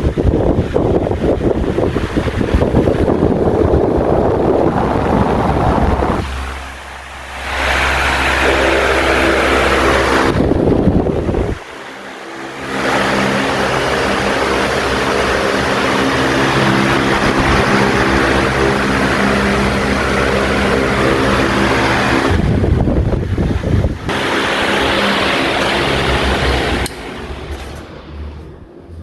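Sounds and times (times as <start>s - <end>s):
air buffeting microphone: 0.0s - 29.0s
fan air rushing: 0.0s - 29.0s
fan motor hum: 0.0s - 29.0s.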